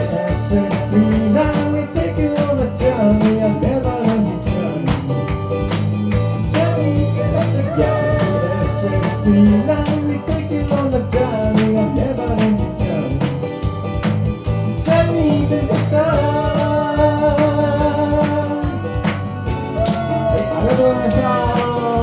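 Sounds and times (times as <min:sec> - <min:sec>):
person singing: 0:00.0 - 0:05.3, 0:06.4 - 0:13.3, 0:14.8 - 0:22.0
guitar: 0:00.0 - 0:22.0
steady drum beat: 0:00.0 - 0:22.0.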